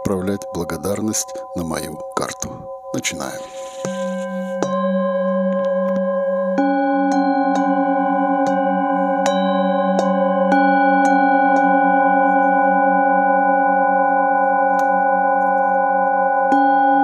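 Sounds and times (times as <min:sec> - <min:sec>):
metal singing bowls ringing: 0:00.0 - 0:17.0.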